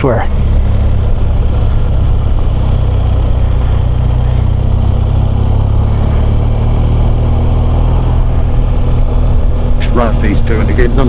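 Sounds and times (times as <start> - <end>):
motorcycle engine droning: 0.0 - 11.0.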